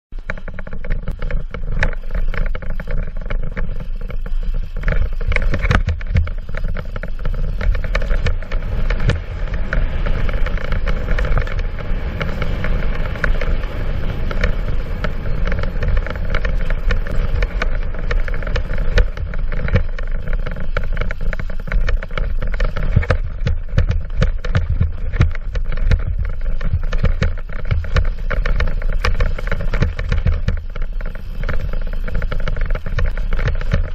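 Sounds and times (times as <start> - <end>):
bike rattling over ground: 0.1 - 33.9
wind buffeting microphone: 0.1 - 33.9
tyres rolling over dirt: 0.2 - 33.9.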